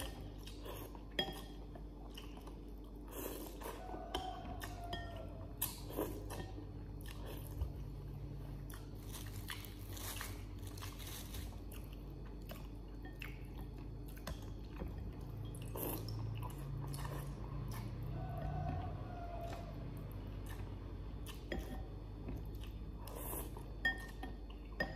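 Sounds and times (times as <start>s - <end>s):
person chewing noodles: 0.0s - 24.8s.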